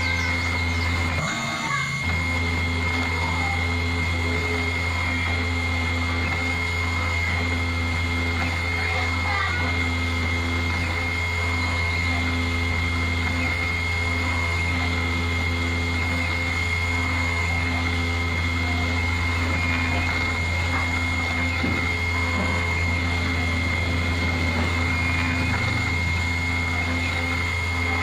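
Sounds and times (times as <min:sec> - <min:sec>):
low motor hum: 0:00.0 - 0:28.0
router spindle whining: 0:00.0 - 0:28.0.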